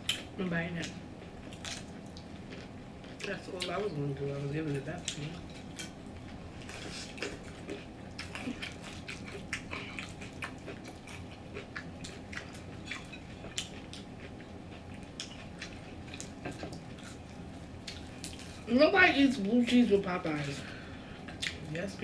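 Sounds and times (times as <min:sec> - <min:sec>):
wet chewing and crunching: 0:00.0 - 0:18.7
low room hum: 0:00.0 - 0:22.0.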